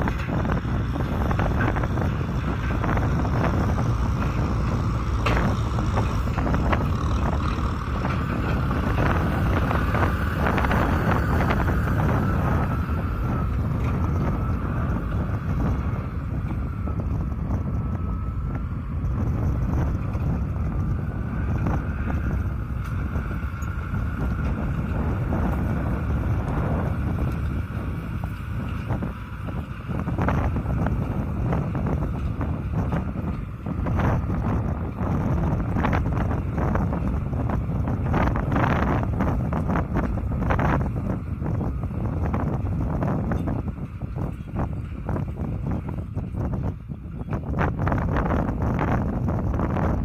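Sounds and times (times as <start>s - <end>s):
thin wavering whine: 0.0s - 50.0s
tractor diesel engine running: 0.0s - 50.0s
wind buffeting microphone: 0.0s - 50.0s.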